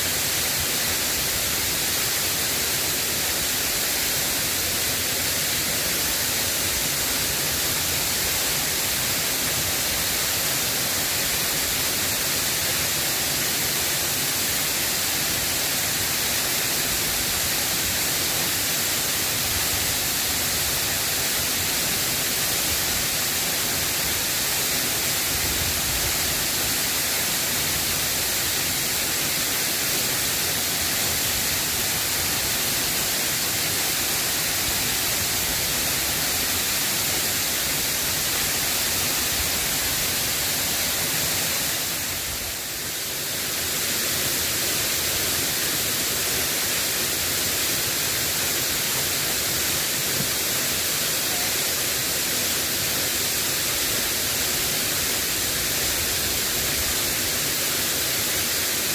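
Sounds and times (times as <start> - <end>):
rain hissing: 0.0 - 58.9.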